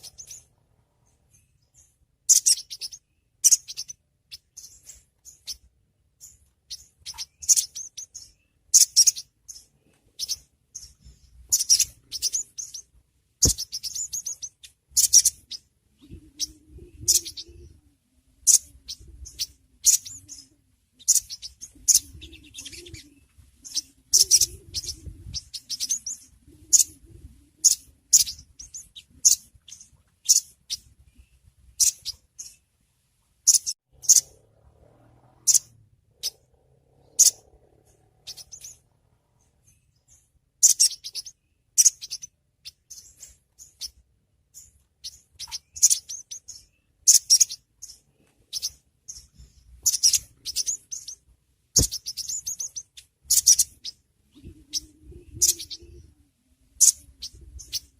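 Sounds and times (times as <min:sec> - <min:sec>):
bird chirping: 0:00.0 - 0:32.8, 0:33.4 - 0:57.9.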